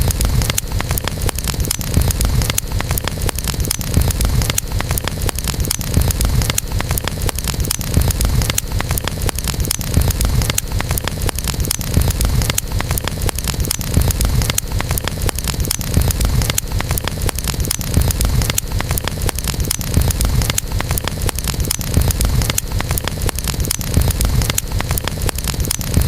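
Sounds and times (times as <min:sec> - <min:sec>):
campfire crackles and pops: 0:00.0 - 0:26.0
low rumble of flames: 0:00.0 - 0:26.0.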